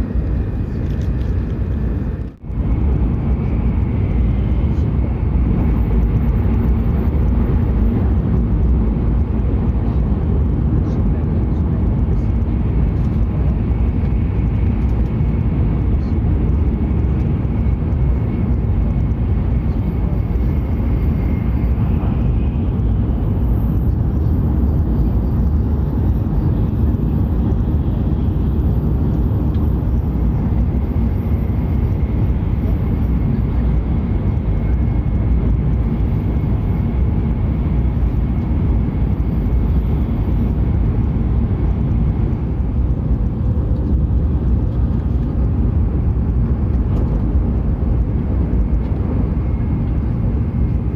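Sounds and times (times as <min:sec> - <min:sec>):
train running low rumble: 0:00.0 - 0:50.9.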